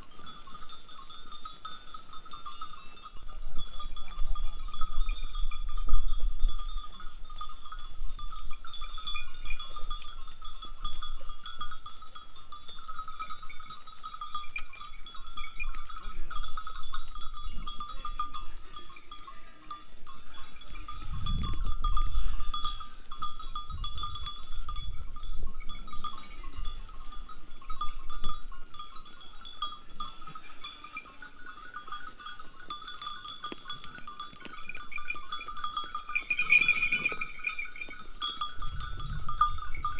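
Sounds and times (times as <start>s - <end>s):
sheep and goat bells ringing: 0.0s - 39.9s.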